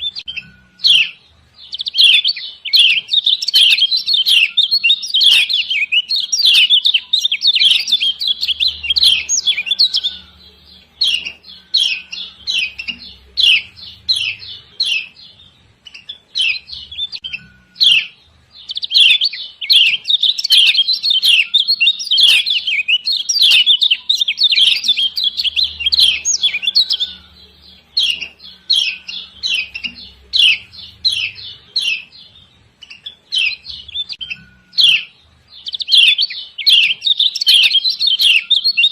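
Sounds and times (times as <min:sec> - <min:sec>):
bird chirping sharply: 0:00.0 - 0:38.9.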